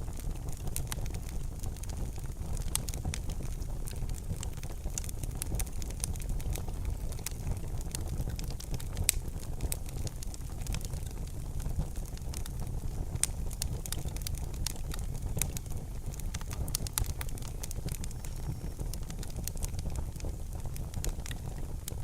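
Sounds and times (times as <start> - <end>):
fireplace wood fire crackling: 0.0 - 22.0.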